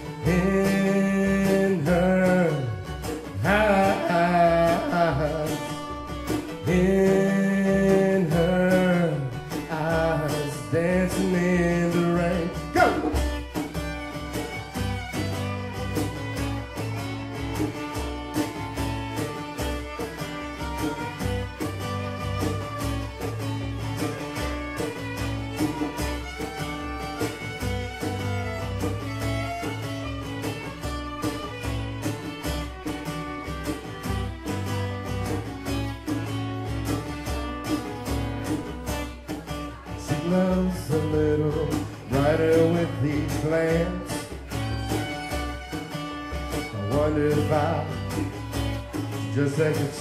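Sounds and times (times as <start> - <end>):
violin playing: 0.0 - 40.4, 41.2 - 50.0
strummed acoustic guitar: 0.0 - 50.0.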